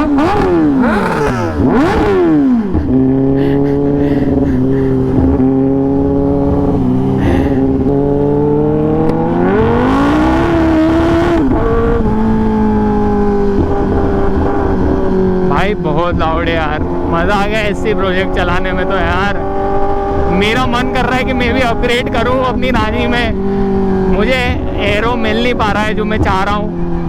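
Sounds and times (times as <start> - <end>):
loud motorcycle engine cruising: 0.0 - 27.0.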